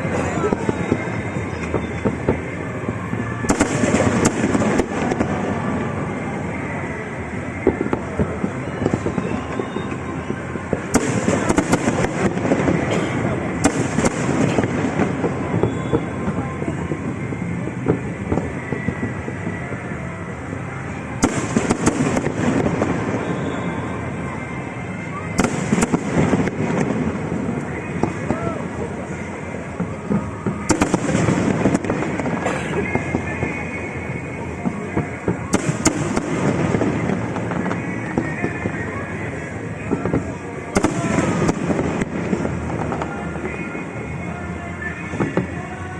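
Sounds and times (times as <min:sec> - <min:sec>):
loud firework bangs: 0:00.0 - 0:06.7, 0:07.3 - 0:20.1, 0:20.7 - 0:44.1
fireworks crackling: 0:00.0 - 0:45.9
music: 0:00.0 - 0:45.9.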